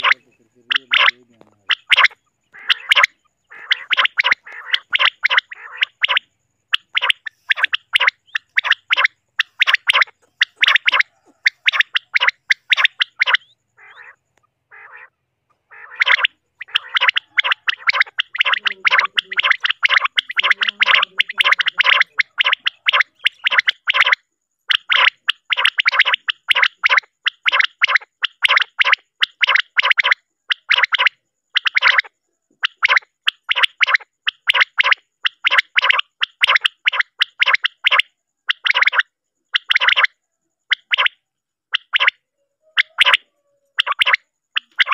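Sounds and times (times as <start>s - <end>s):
quail calling: 0.0s - 44.9s.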